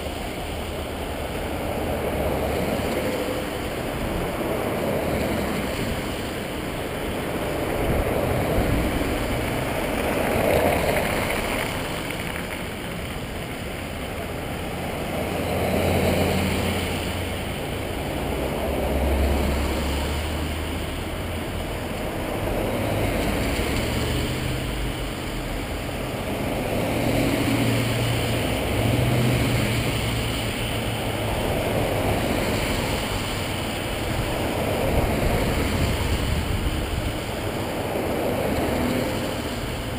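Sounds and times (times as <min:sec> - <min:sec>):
vehicles driving past: 0:00.0 - 0:39.9.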